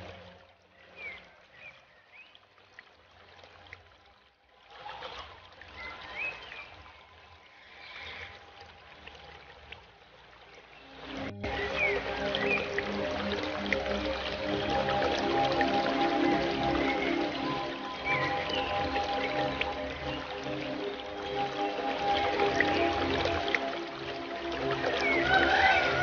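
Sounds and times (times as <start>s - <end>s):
aquarium water trickling: 0.0s - 26.0s.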